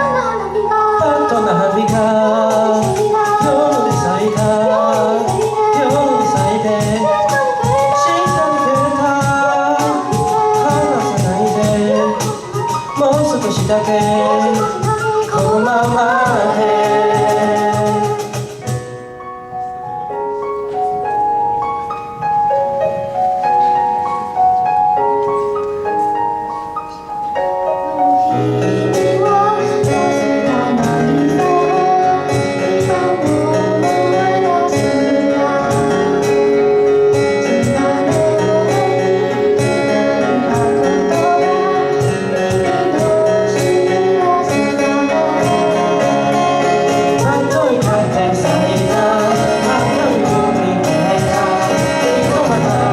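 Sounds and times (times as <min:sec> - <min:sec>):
drums: 0:00.0 - 0:52.9
pop-rock band playing: 0:00.0 - 0:52.9.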